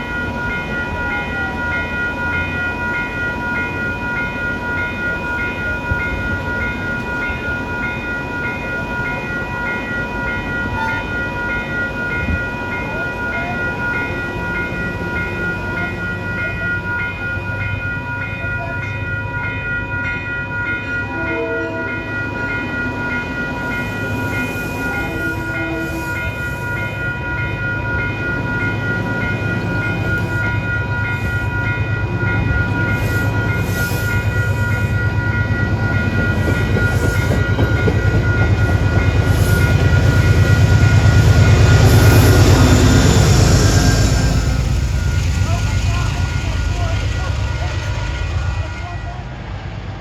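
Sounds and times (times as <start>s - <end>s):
crossing bell ringing: 0.0s - 49.8s
train rumbling on rails: 0.0s - 50.0s.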